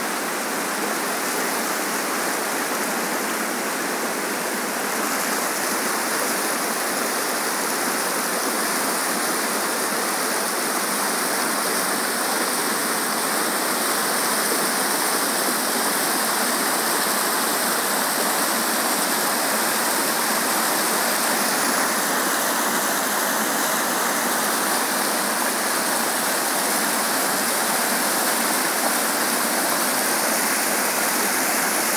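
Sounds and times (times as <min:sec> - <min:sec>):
water churning and rushing: 0:00.0 - 0:31.9.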